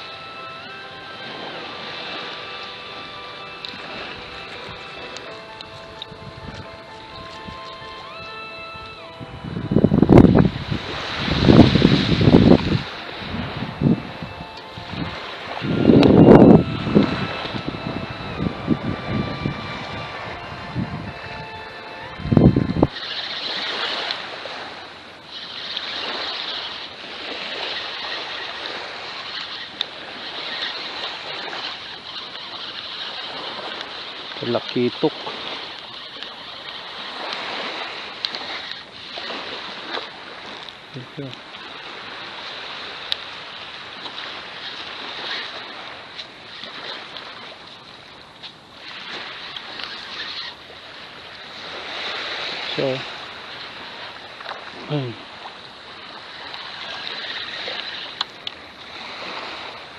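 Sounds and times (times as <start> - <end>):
gentle surf on sandy beach: 0.0 - 59.9
wind on microphone: 0.0 - 59.9.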